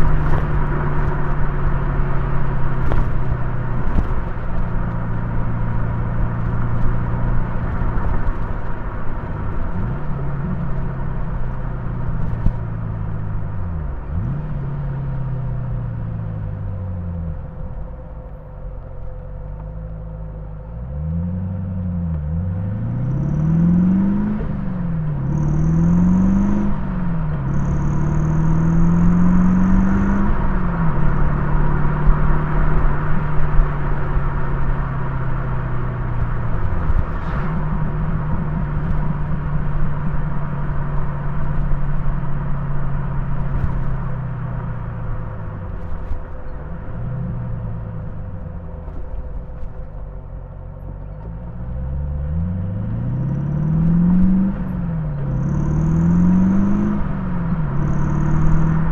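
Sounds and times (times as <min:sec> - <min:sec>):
car engine accelerating: 0:00.0 - 0:58.9
road noise: 0:00.0 - 0:58.9.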